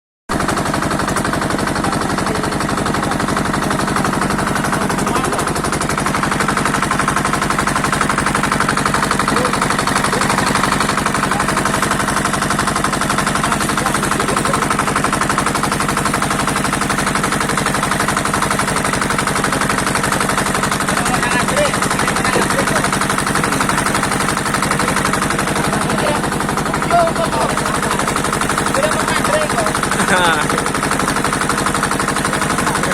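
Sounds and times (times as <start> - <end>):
small engine chugging: 0.3 - 32.9.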